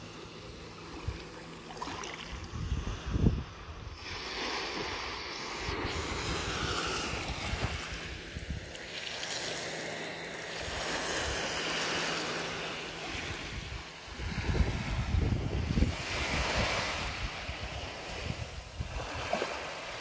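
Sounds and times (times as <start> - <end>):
surf washing over sand: 0.0 - 20.0.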